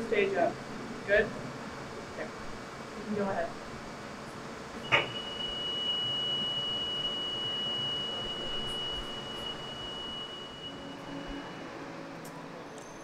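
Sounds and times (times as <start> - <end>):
motorised stage whining: 0.0 - 13.0.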